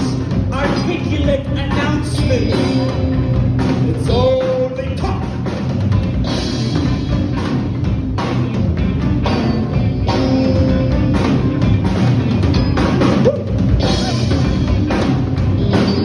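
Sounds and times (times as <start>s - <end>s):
drum kit: 0.0s - 16.0s
rock band playing: 0.0s - 16.0s.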